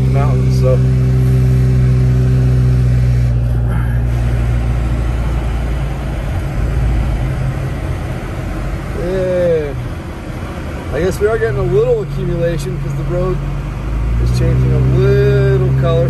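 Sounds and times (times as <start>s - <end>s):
car engine hum: 0.0s - 16.0s
tyre and road noise: 0.0s - 16.0s.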